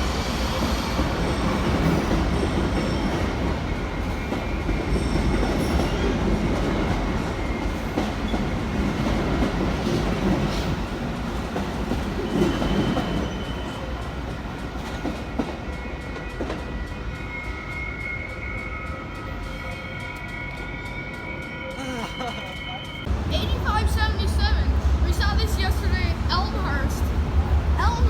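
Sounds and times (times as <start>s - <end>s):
train rumbling with wheel clatter: 0.0s - 28.0s.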